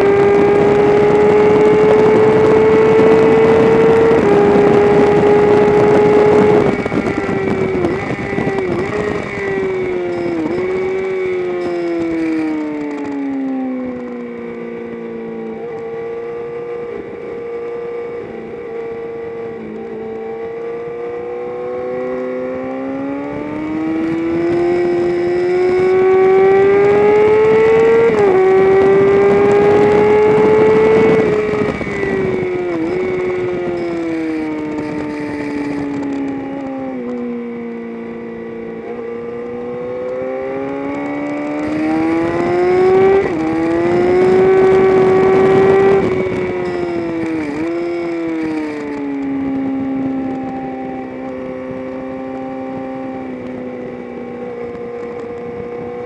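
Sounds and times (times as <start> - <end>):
race car engine revving: 0.0 - 13.1, 15.6 - 36.2, 38.4 - 50.6.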